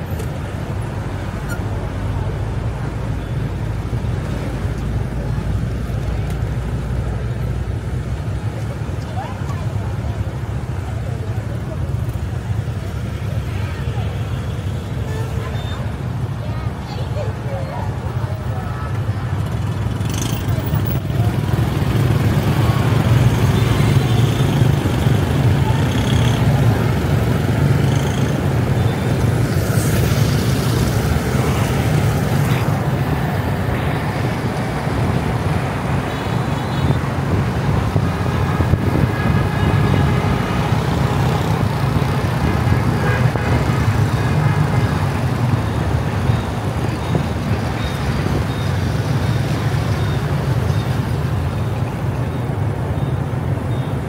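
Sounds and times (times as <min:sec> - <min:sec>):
road rumble: 0:00.0 - 0:54.0
traffic noise: 0:00.0 - 0:54.0.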